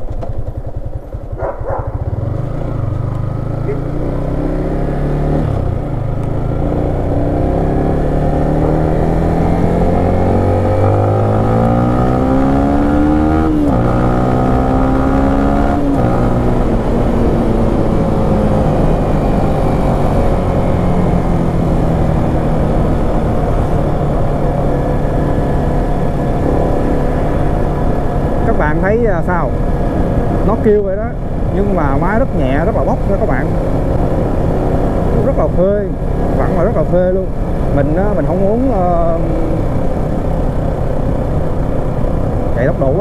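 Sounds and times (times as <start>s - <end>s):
motorbike engine revving through gears: 0.0s - 43.0s.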